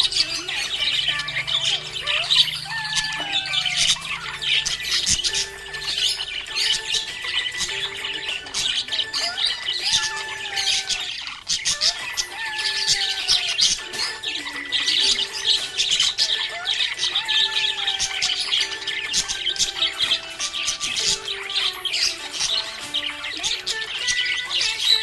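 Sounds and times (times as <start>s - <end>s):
budgerigars chirping and chattering: 0.0s - 25.0s
song playing in background: 0.0s - 25.0s.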